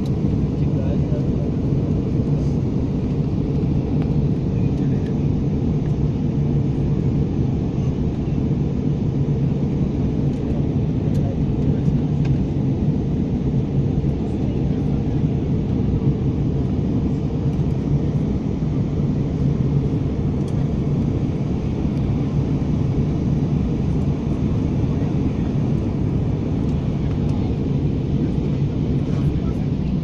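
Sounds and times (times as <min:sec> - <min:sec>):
aircraft cabin engine noise: 0:00.0 - 0:30.0.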